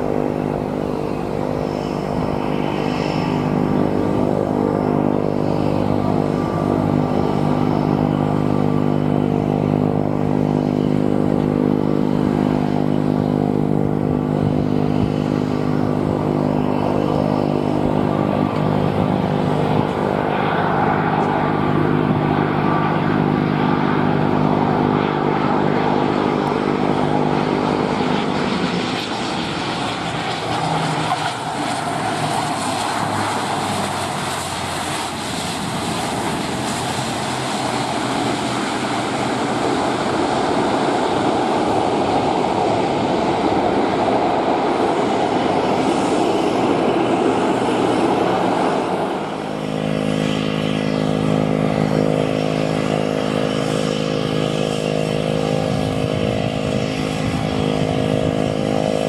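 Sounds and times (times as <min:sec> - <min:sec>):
aircraft humming drone: 0:00.0 - 0:59.0
turboprop airliner landing: 0:00.0 - 0:59.0.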